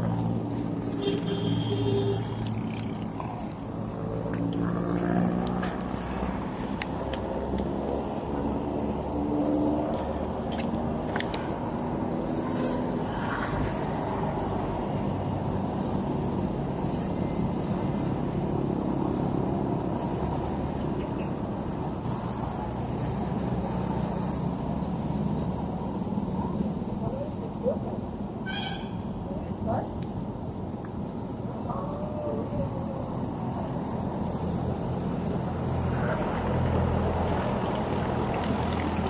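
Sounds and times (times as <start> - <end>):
motor engines rumbling: 0.0 - 39.0.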